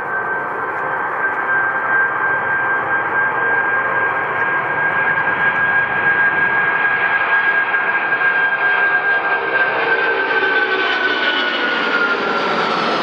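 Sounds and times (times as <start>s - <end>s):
high whine: 0.0s - 13.0s
jet engines running: 0.0s - 13.0s.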